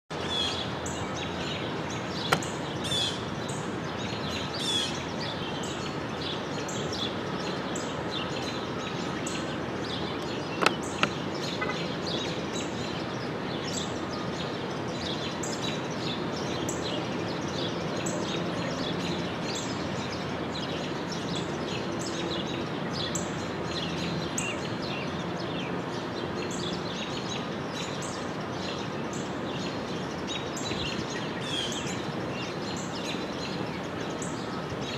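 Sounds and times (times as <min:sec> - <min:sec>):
outdoor background hiss: 0:00.1 - 0:34.9
small birds chirping: 0:00.1 - 0:34.9.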